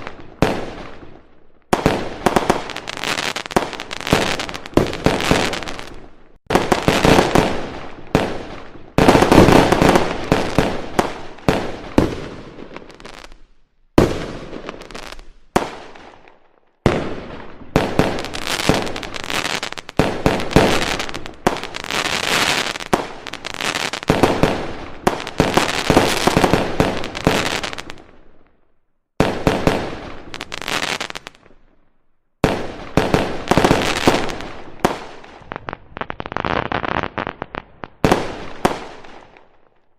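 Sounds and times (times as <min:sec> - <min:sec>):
fireworks bursting with crackling: 0:00.0 - 0:31.8, 0:32.4 - 0:39.9.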